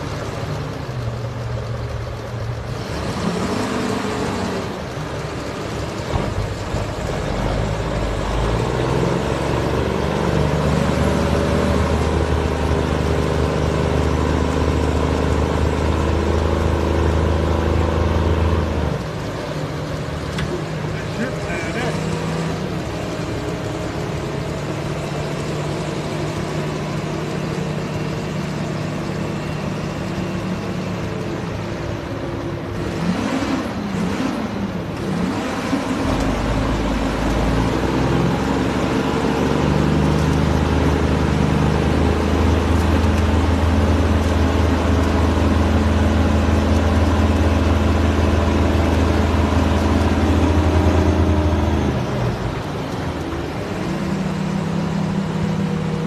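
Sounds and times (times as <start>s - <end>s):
heavy diesel engines under load: 0.0s - 56.0s.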